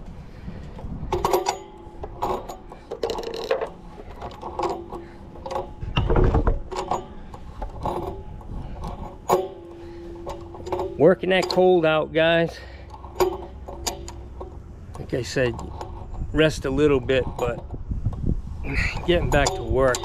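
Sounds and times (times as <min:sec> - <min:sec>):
metallic clicks and clanks: 0:00.5 - 0:20.0.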